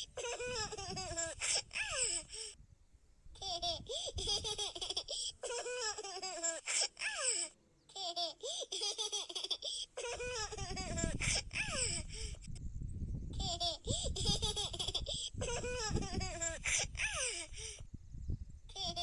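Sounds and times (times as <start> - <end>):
baby giggling: 0.0 - 2.6, 3.4 - 12.6, 13.4 - 17.8, 18.7 - 19.0.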